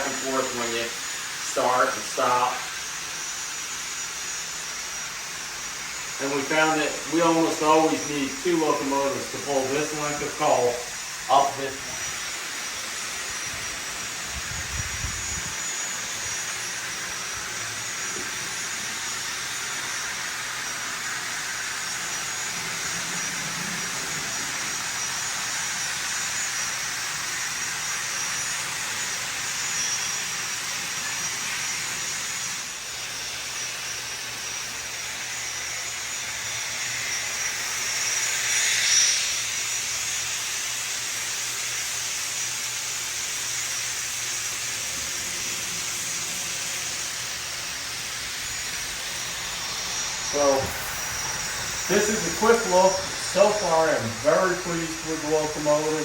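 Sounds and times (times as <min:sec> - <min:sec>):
jet-like turbine hiss: 0:00.0 - 0:56.0.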